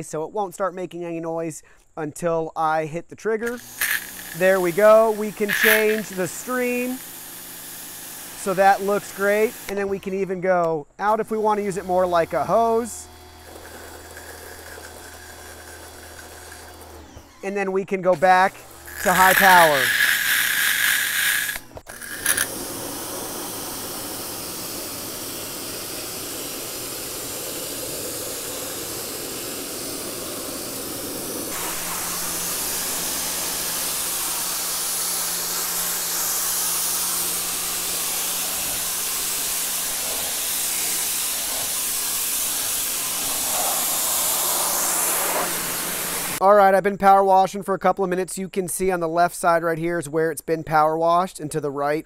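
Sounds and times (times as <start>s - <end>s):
pressure washer spraying wood: 3.4s - 46.4s.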